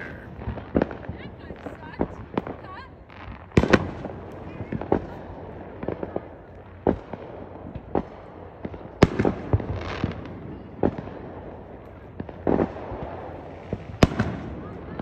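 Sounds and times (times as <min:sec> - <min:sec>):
fireworks bangs and booms: 0:00.0 - 0:15.0
fireworks popping: 0:00.0 - 0:15.0.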